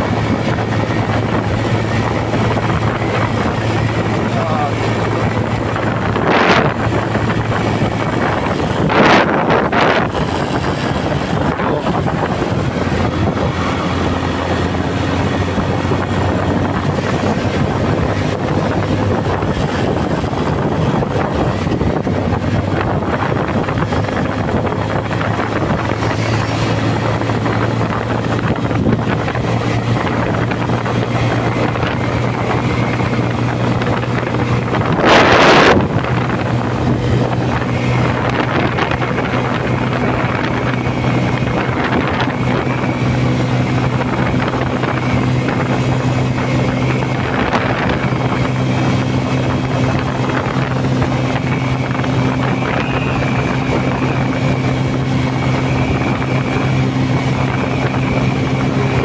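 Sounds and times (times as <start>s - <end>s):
motorcycle engine running: 0.0s - 59.0s
wind on microphone: 0.0s - 59.0s.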